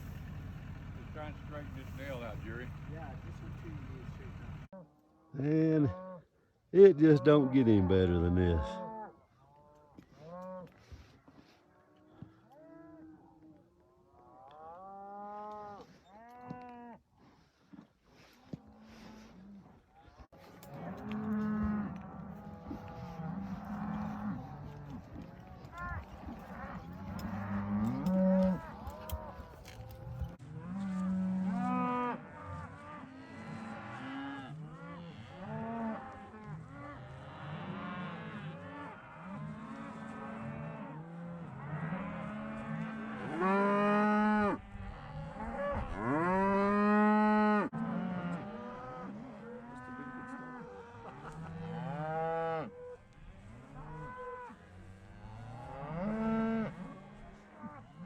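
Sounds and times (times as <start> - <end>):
cattle bawling and mooing: 0.0 - 4.6, 5.2 - 10.9, 11.7 - 17.0, 18.5 - 58.0.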